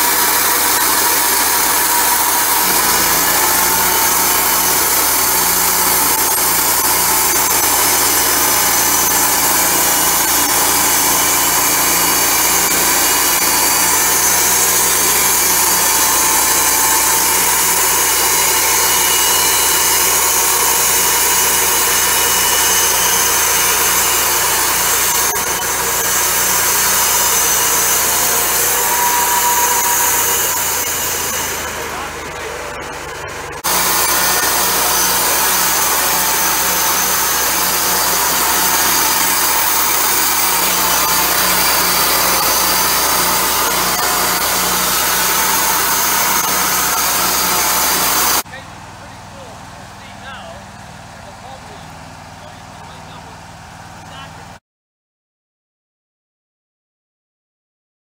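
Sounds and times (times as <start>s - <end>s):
band sawmill cutting log: 0.0s - 54.6s.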